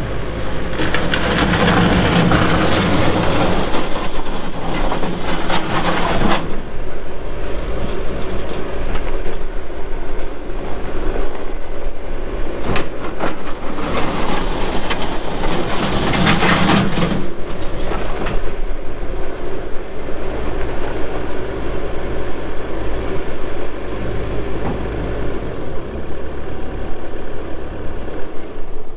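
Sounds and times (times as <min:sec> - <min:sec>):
diesel loader engine running: 0:00.0 - 0:28.9.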